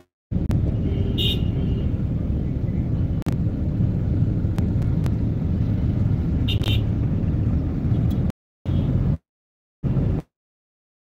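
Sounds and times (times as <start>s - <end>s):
vehicle road and engine rumble: 0.3s - 9.2s, 9.8s - 10.3s.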